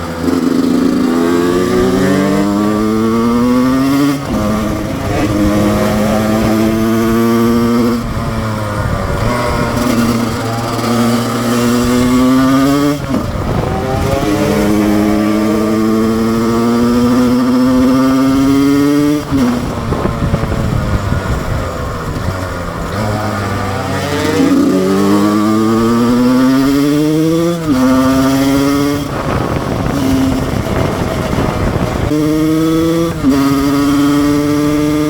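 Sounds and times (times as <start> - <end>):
two-stroke engine accelerating: 0.0 - 35.0.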